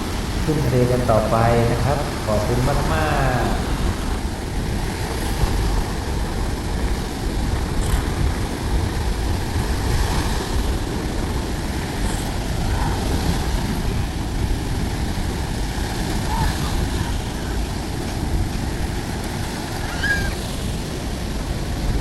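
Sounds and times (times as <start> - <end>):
sea waves on a beach: 0.0 - 22.0
wind rumble on microphone: 0.0 - 22.0.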